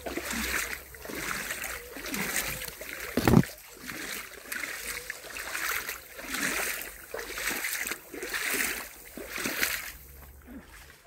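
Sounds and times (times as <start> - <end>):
feet splashing through water: 0.0 - 11.0.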